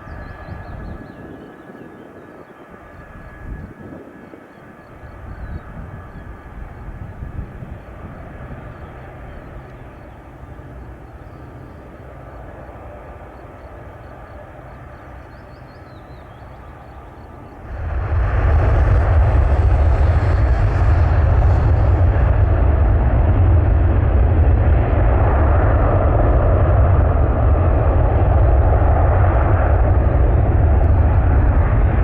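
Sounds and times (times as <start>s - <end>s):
jet engines rumbling and whining: 0.0s - 32.0s.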